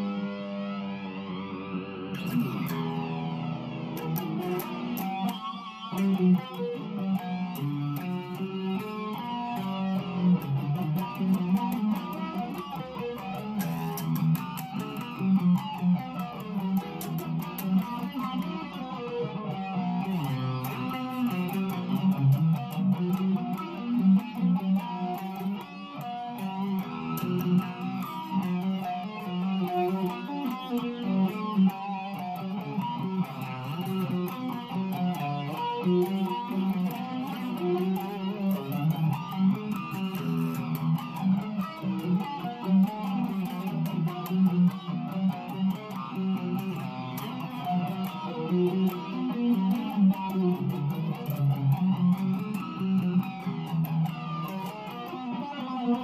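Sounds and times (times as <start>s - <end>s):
plucked guitar notes: 0.0s - 56.0s.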